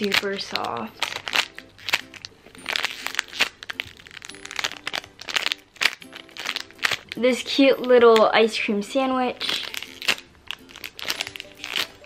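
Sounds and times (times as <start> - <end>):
plastic bag crinkling: 0.0 - 8.6, 9.4 - 12.0
soft background music: 0.0 - 12.0.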